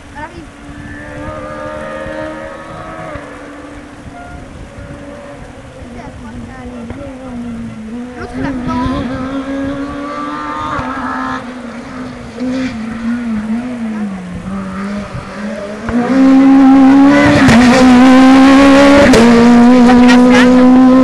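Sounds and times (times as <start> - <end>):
rally car engine at high revs: 0.1 - 21.0.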